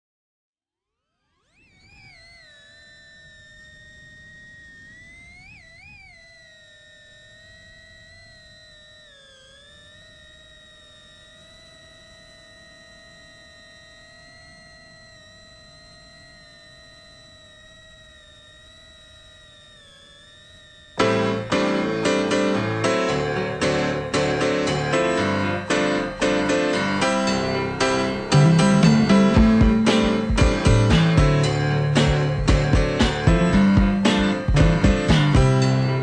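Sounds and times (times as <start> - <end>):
drone motors whining: 1.0 - 36.0.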